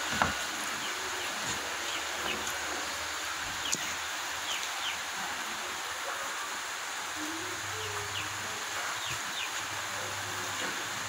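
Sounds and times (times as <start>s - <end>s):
rain falling on foliage: 0.0s - 11.0s.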